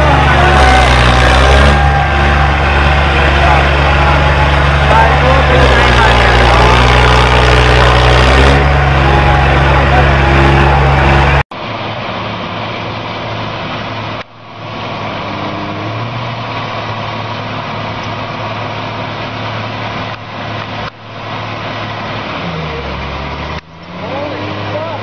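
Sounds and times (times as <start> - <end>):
tractor diesel engines under load: 0.0 - 25.0.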